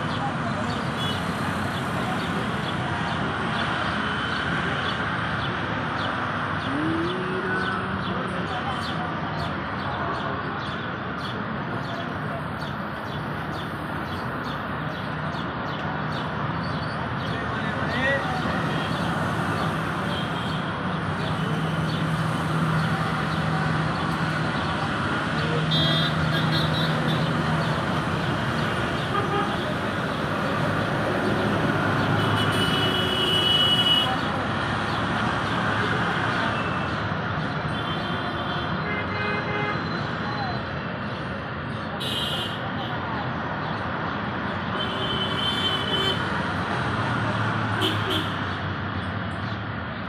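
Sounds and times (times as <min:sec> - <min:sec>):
traffic: 0:00.0 - 0:50.0.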